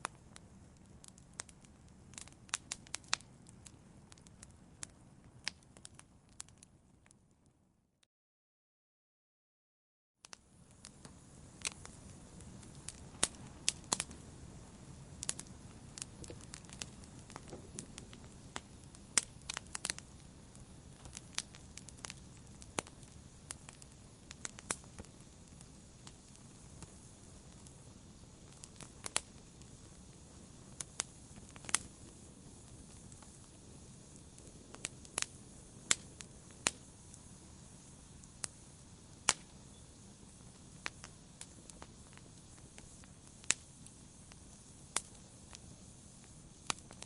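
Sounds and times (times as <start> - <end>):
fire flames rumbling: 0.0 - 7.2, 10.4 - 47.0
wood fire popping and snapping: 0.0 - 7.2, 10.2 - 47.0.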